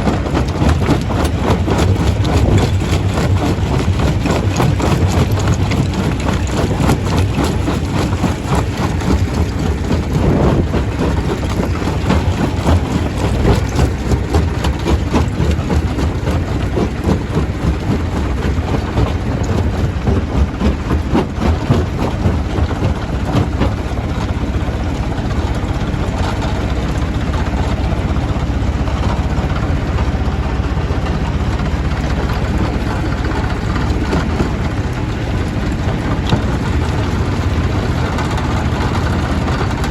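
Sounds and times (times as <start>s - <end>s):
heavy engine drone: 0.0s - 39.9s.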